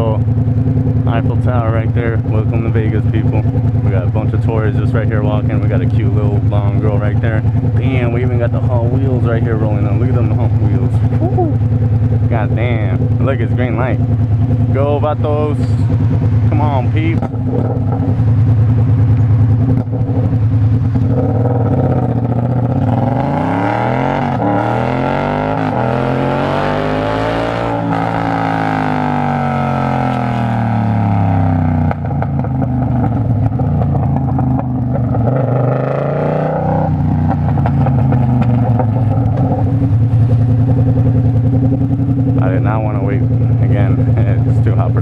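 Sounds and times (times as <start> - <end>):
motorcycle engine pulling away: 1.9 - 45.0.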